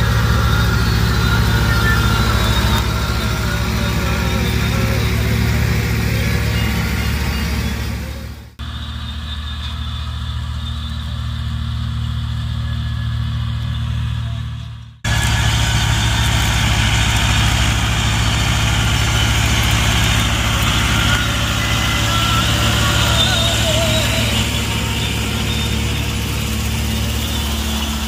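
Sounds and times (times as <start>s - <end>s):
straw chopper whirring: 0.0s - 8.8s, 10.8s - 28.0s
tractor diesel engine running: 0.0s - 28.0s.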